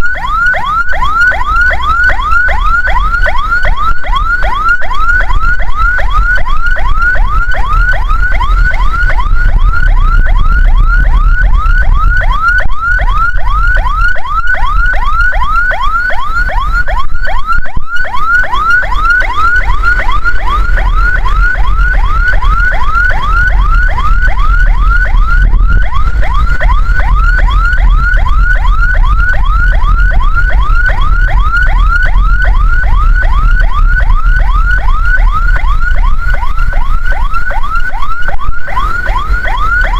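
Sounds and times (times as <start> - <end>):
ambulance siren yelping: 0.0 - 39.9
low rumble: 5.2 - 39.7.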